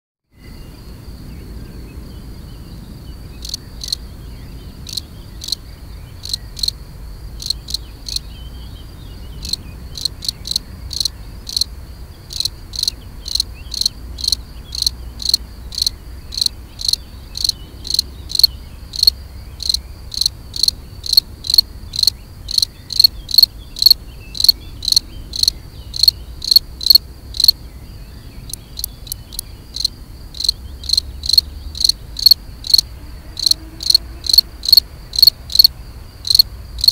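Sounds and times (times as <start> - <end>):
cricket chirping: 0.3 - 36.9.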